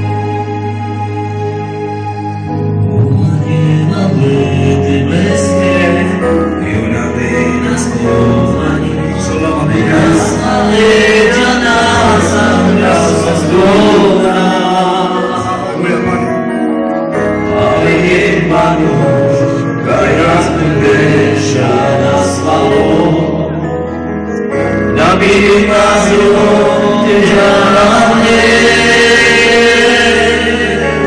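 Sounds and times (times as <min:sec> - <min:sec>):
amplified backing music with bass: 0:00.0 - 0:31.0
men singing worship song: 0:03.0 - 0:16.6, 0:17.2 - 0:23.7, 0:24.6 - 0:31.0.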